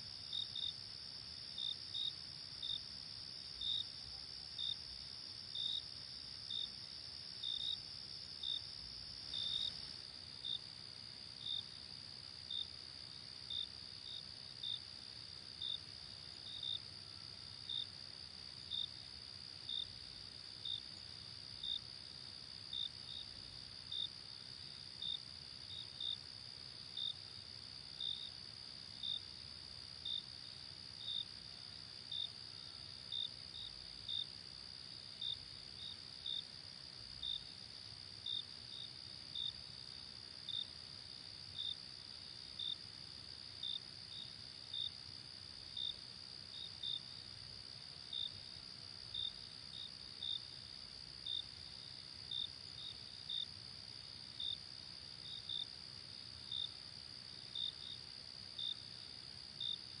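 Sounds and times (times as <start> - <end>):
cricket chirps: 0.0 - 60.0.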